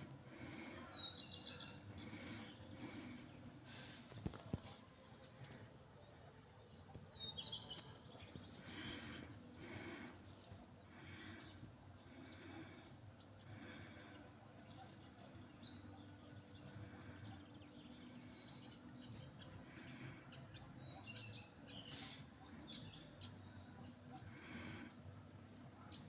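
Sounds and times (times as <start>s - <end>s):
faint birds chirping: 0.0s - 26.0s
low steady background noise: 0.0s - 26.0s.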